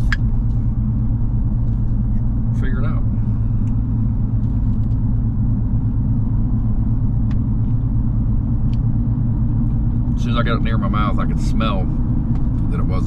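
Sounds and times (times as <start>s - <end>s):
truck rumble inside cab: 0.0s - 13.0s.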